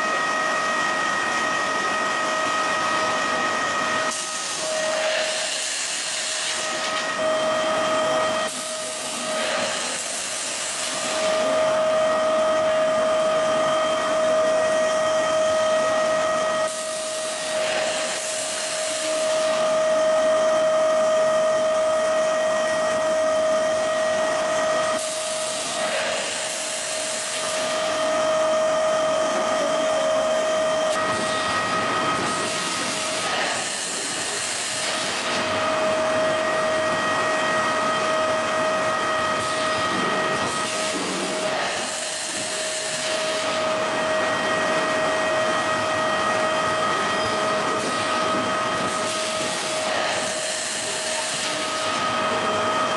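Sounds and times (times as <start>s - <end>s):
machine whine: 0.0s - 52.9s.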